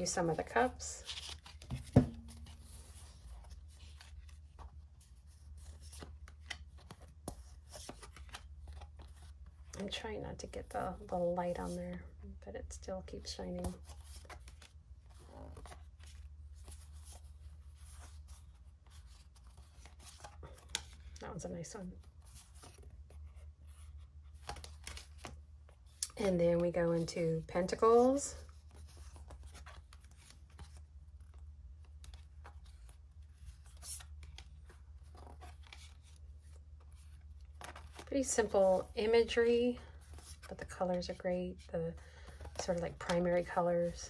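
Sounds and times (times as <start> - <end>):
cards being shuffled: 0.0 - 9.9, 13.6 - 21.2, 22.1 - 26.2, 28.0 - 41.2, 42.0 - 44.0.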